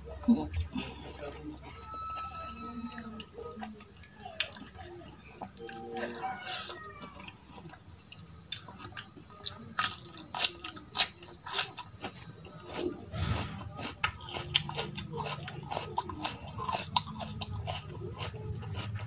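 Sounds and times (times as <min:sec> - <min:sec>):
close chewing: 0:00.4 - 0:19.0.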